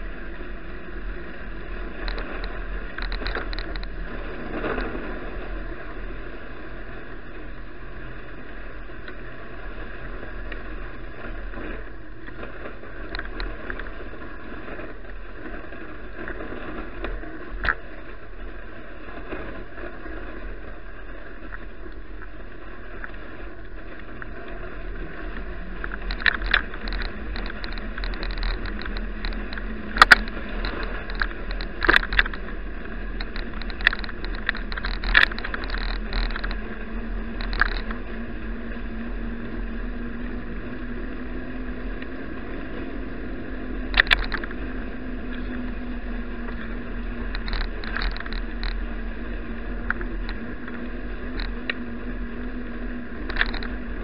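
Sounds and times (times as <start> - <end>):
bicycle rattling over bumps: 0.0 - 54.0
road and wind noise: 0.0 - 54.0.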